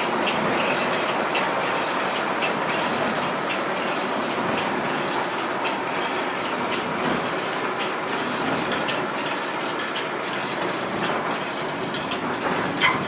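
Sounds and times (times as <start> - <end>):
baler mechanical clatter: 0.0 - 13.0
clicks and knocks of moving parts: 0.1 - 13.0.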